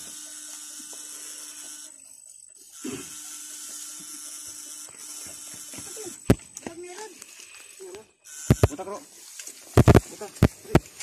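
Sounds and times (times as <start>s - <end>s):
electric fishing shocker buzzing: 0.0s - 11.0s.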